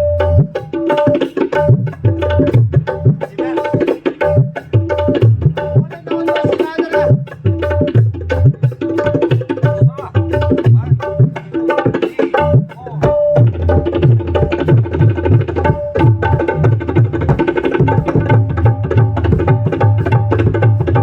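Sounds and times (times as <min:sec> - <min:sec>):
tabla bass drum strokes: 0:00.0 - 0:21.0
tabla treble drum strokes: 0:00.0 - 0:21.0.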